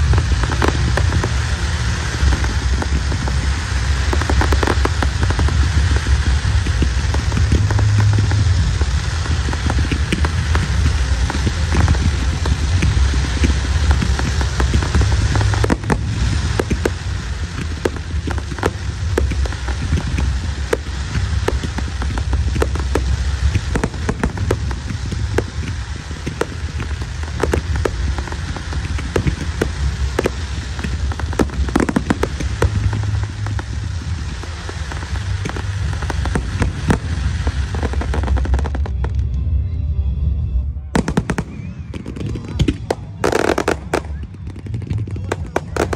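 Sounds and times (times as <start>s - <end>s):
fireworks crackling and popping: 0.0s - 39.6s, 40.9s - 45.9s
low rumble: 0.0s - 45.9s.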